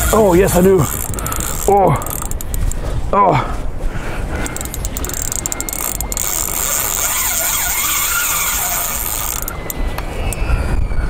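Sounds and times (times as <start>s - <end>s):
fishing reel drag buzzing: 0.0s - 2.8s, 4.4s - 10.6s.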